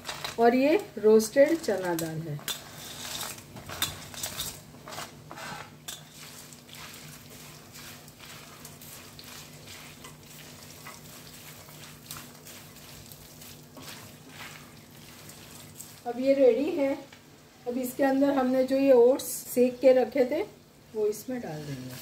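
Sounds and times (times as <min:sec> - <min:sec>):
oil frying sizzle: 0:00.0 - 0:22.0.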